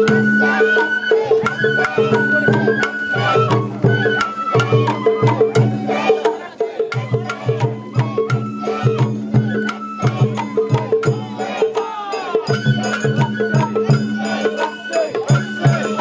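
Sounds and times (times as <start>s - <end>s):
bamboo flute high notes: 0.0s - 16.0s
taiko drums beating: 0.0s - 16.0s.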